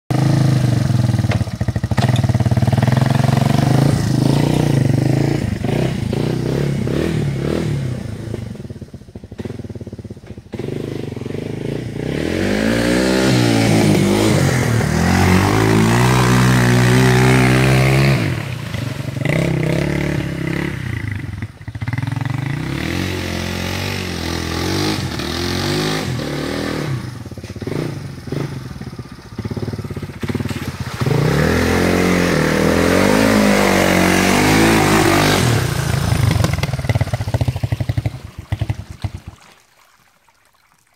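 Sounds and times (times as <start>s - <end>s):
atv engine revving: 0.1s - 39.3s.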